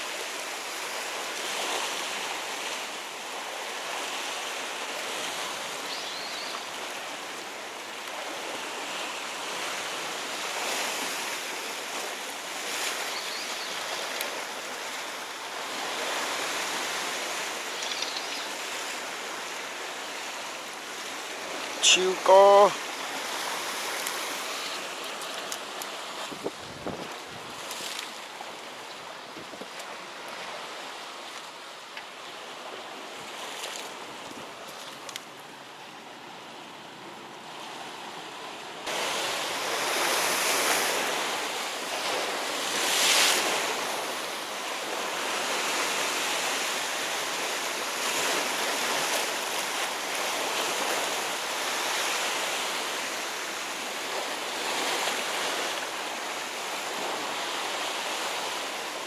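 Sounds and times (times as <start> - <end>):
waves washing against rocky shore: 0.0 - 35.9, 38.8 - 59.0.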